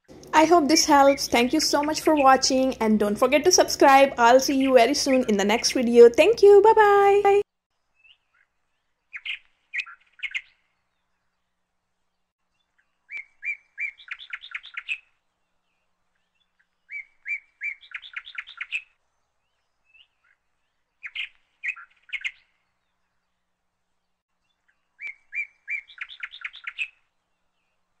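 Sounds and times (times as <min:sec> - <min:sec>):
bird chirping: 0:00.0 - 0:27.8.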